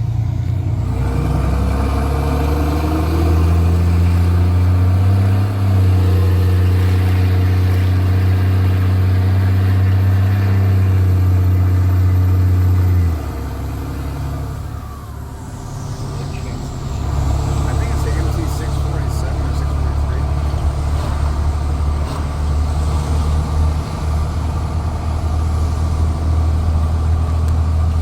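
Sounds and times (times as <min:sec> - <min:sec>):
loud deep diesel exhaust drone: 0:00.0 - 0:28.0.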